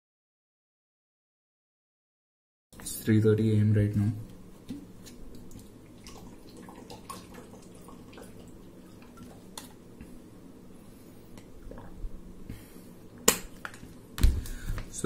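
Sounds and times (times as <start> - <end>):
steady low hum: 2.8 - 15.0.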